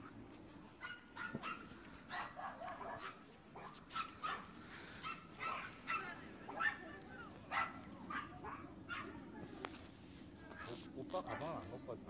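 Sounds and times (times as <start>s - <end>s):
dogs barking and yipping: 0.0s - 9.5s, 10.4s - 11.9s.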